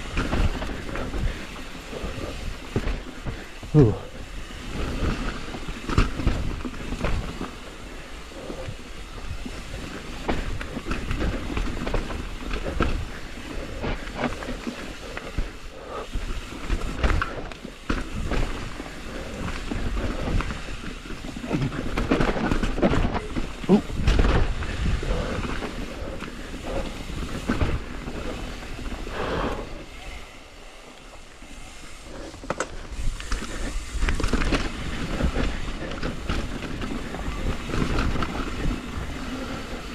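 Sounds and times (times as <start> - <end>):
bike chain and frame rattling: 0.0 - 39.9
bike tyres rumbling over roots: 0.0 - 39.9.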